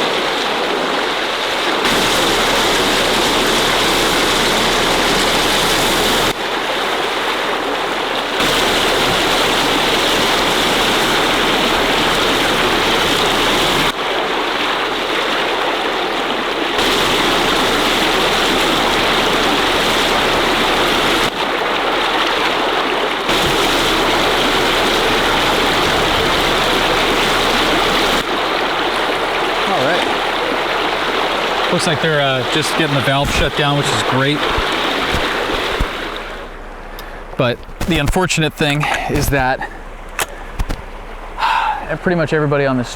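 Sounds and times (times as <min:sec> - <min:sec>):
water gushing and splashing: 0:00.0 - 0:42.9.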